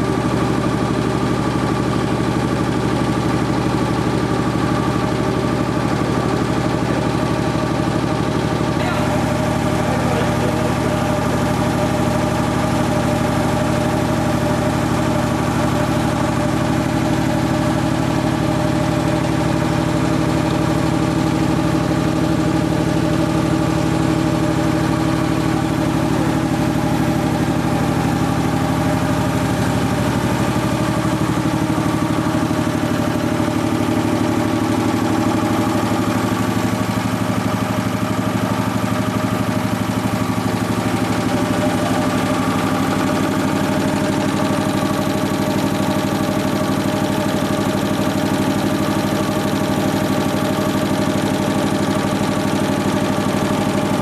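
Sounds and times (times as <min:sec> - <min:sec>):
piston air compressor running: 0:00.0 - 0:54.0.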